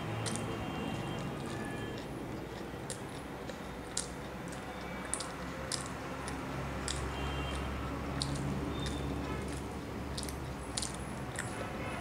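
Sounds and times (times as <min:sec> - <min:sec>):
person chewing food: 0:00.0 - 0:12.0
wet mouth smacks and clicks: 0:00.1 - 0:11.6.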